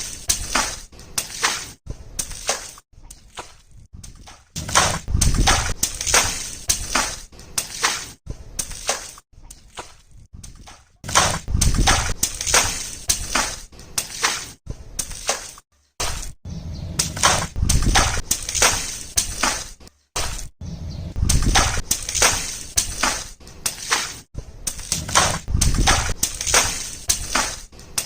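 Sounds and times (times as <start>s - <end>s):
water balloons bursting: 0.0s - 20.5s, 21.1s - 28.0s.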